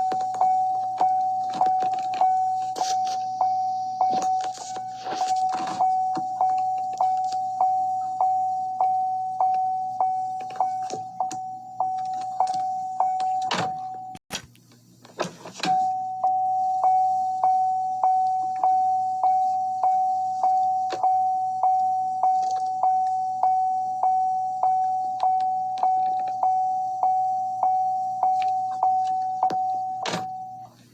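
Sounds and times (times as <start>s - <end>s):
car door warning chime: 0.0s - 14.2s, 15.5s - 30.9s.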